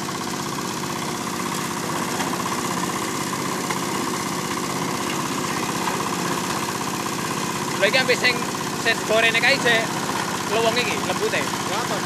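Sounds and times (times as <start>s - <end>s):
diesel engine running: 0.0s - 12.0s
grass chopper blades cutting: 0.0s - 12.0s.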